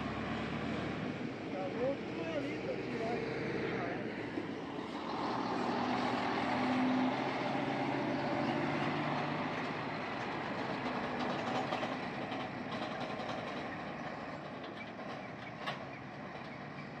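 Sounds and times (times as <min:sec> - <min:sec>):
truck diesel engine pulling away: 0:00.0 - 0:17.0
tyres on dirt road: 0:00.0 - 0:17.0.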